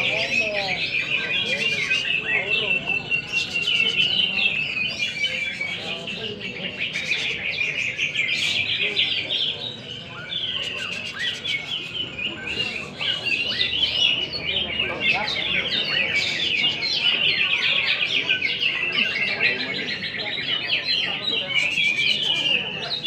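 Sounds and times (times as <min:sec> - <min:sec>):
birds chirping and whistling: 0:00.0 - 0:23.0.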